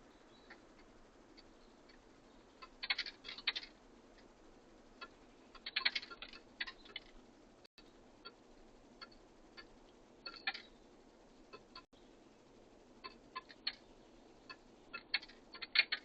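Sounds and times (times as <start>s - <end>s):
birds pecking at a feeder: 0.0s - 16.0s.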